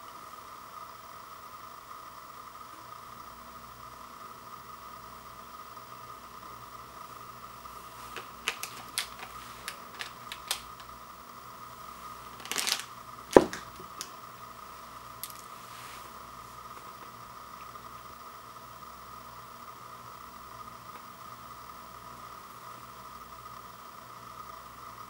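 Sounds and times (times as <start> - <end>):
faint high hum: 0.0 - 25.0.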